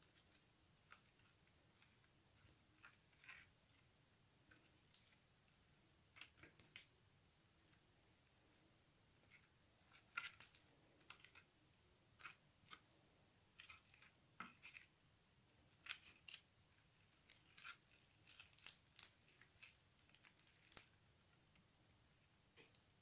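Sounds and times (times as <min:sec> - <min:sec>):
slime stirred with plastic spoon: 0:00.0 - 0:23.0.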